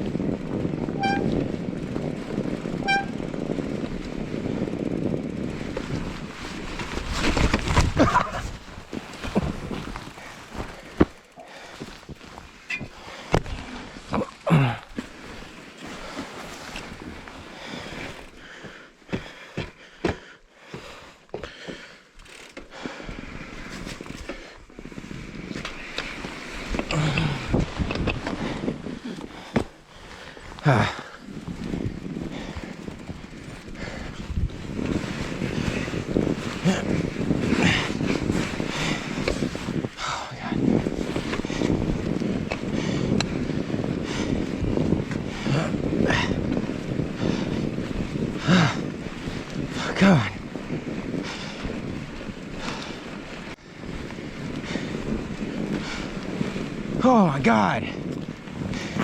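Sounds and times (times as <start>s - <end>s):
wind rumble on microphone: 0.0s - 19.3s, 23.0s - 59.0s
bike riding through snow: 0.0s - 59.0s.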